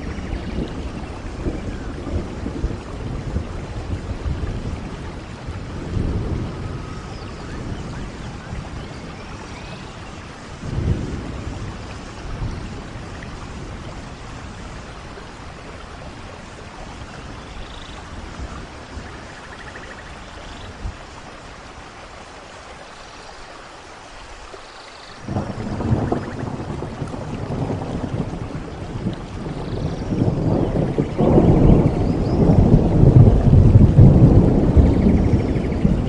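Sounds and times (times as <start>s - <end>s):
distant thunder rumbles: 0.0s - 21.1s, 25.2s - 36.0s
steady rainfall: 0.0s - 36.0s.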